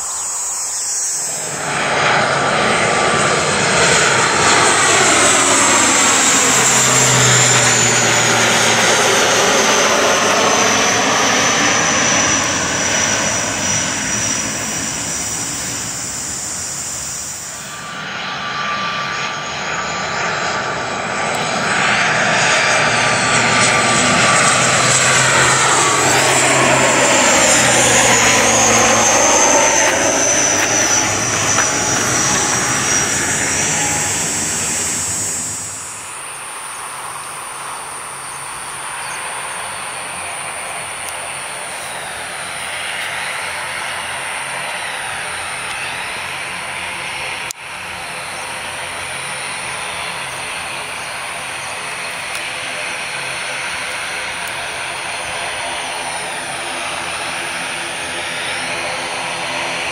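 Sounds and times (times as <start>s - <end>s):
propeller plane drone overhead: 0.0s - 59.9s.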